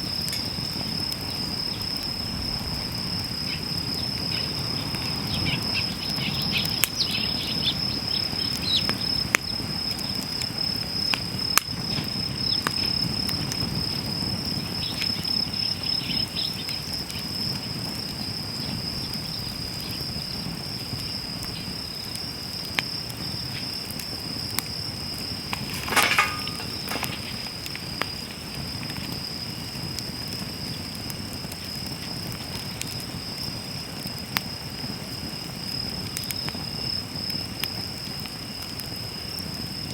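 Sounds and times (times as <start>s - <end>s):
insect trill: 0.0s - 33.9s
campfire crackling and popping: 0.0s - 39.9s.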